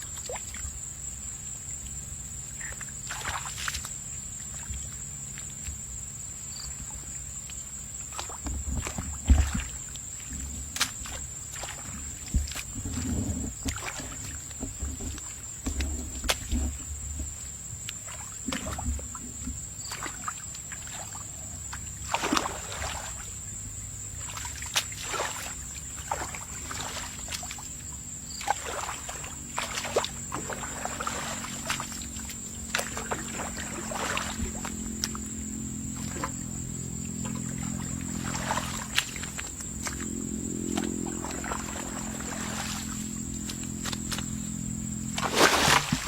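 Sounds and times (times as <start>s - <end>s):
muddy water splashing: 0.0s - 46.0s.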